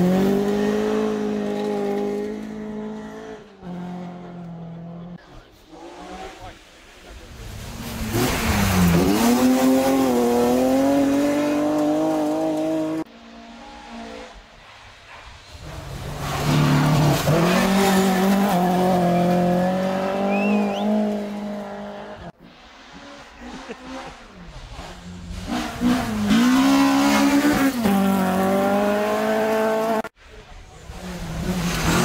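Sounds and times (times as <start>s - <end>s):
rally cars passing at full throttle: 0.0s - 32.0s.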